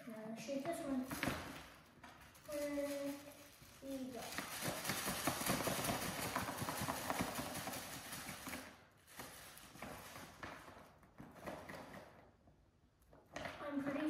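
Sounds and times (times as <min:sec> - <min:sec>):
paper rustling: 0:00.0 - 0:12.2
contents rattling in a bag: 0:00.1 - 0:12.0.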